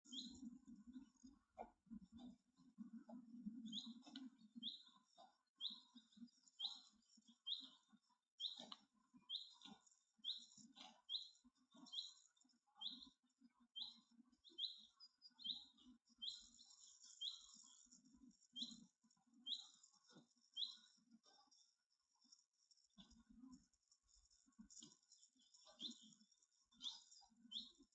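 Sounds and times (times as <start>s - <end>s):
small bird chirping: 0.0s - 27.9s.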